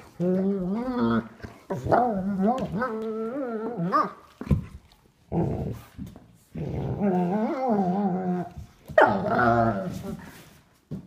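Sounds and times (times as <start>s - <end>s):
dog play-growling: 0.0s - 10.2s.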